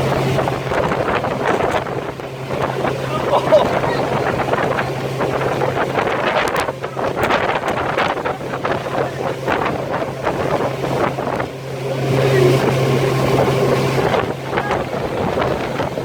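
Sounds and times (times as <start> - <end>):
water splashing at hull: 0.0 - 16.0
watercraft engine running: 0.0 - 16.0
wind buffeting microphone: 0.0 - 16.0.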